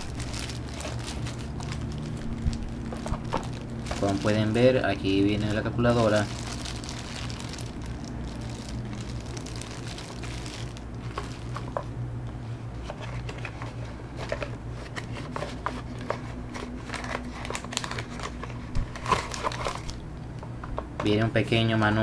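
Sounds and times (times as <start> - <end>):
plastic packaging crinkling: 0.0 - 11.9, 14.2 - 20.1
low hum: 0.0 - 21.5.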